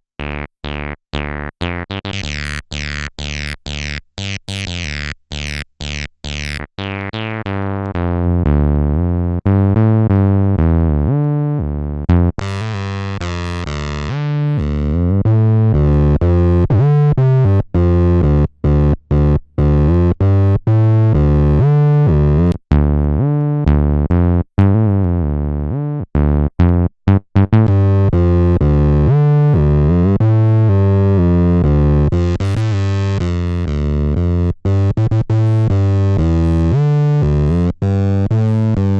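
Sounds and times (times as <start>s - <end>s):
acid synth bassline: 0.2s - 38.9s.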